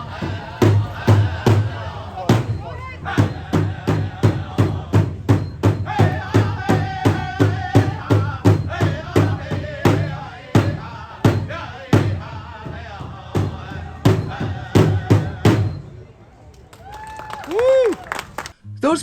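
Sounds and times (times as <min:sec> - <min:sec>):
big drum beating: 0:00.0 - 0:15.9
singers chanting: 0:00.0 - 0:16.2.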